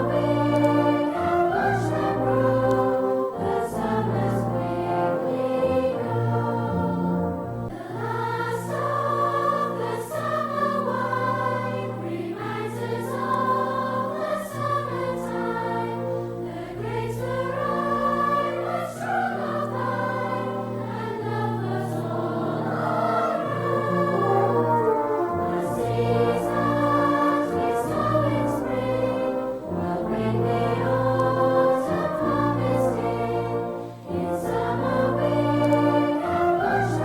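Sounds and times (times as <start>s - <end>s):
choir singing held chords: 0.0s - 37.0s.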